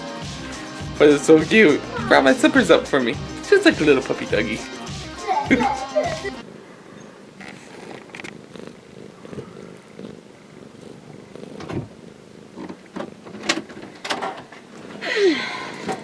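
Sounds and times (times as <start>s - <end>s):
cat purring: 0.5s - 16.0s.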